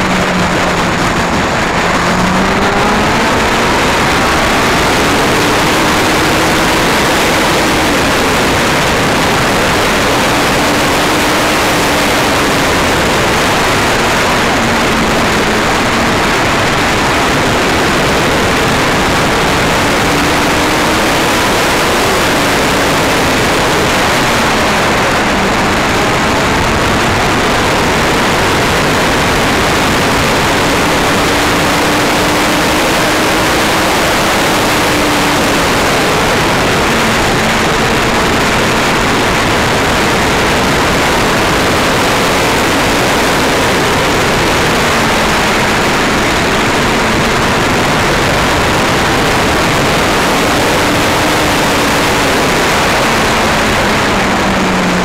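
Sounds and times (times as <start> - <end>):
motorcycle engine: 0.0 - 55.0
wind rushing over microphone: 0.0 - 55.0.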